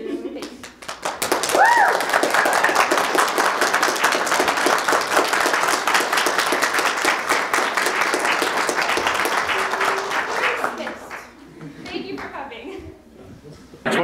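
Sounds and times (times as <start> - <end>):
crowd applauding: 0.4 - 12.4.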